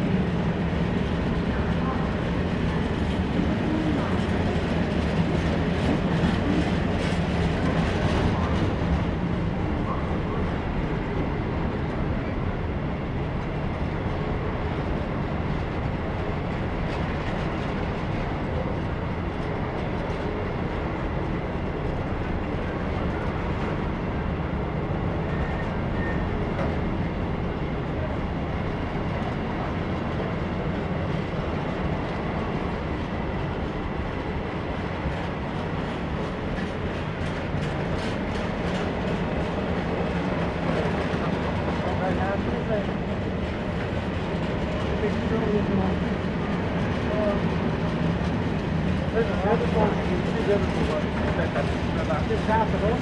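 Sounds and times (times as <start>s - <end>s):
train rumbling past on rails: 0.0s - 53.0s.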